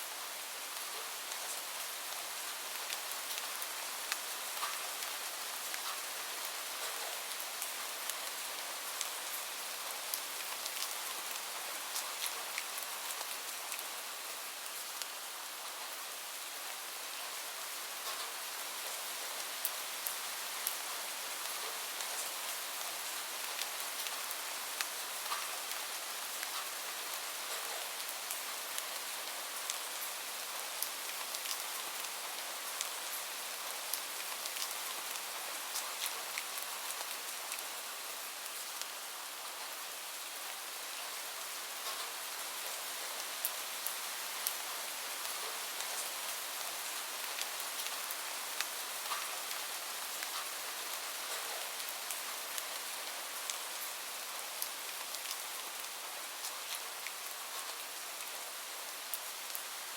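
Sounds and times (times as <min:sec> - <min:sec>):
steady rainfall hiss: 0:00.0 - 0:59.9
raindrops ticking on a surface: 0:00.7 - 0:15.8, 0:17.9 - 0:59.9.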